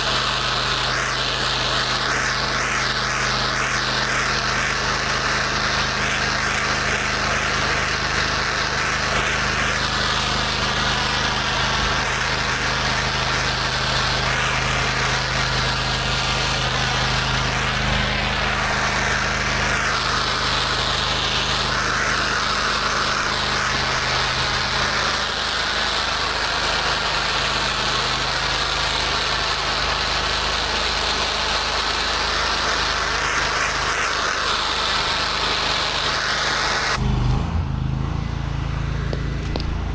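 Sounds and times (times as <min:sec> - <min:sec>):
high-pressure water spray hissing: 0:00.0 - 0:37.3
pressure washer engine hum: 0:00.0 - 0:39.9.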